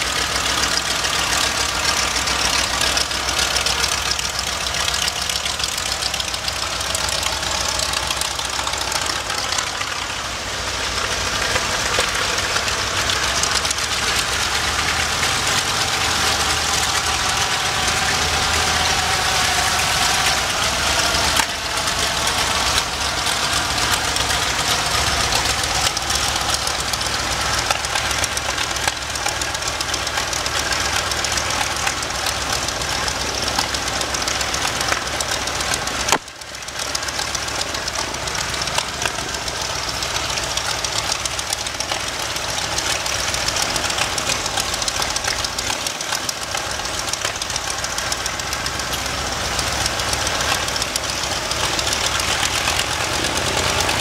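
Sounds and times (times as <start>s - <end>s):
radial aircraft engine droning: 0.0s - 54.0s.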